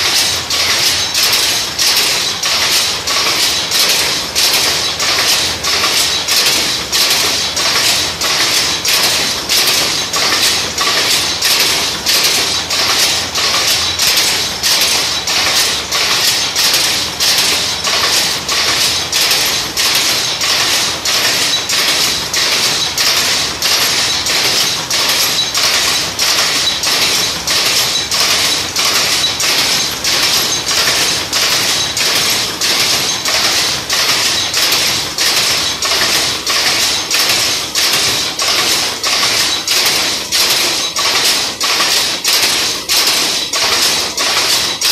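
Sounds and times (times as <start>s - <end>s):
continuous machine rattle: 0.0s - 44.9s
power loom clattering: 0.0s - 44.9s.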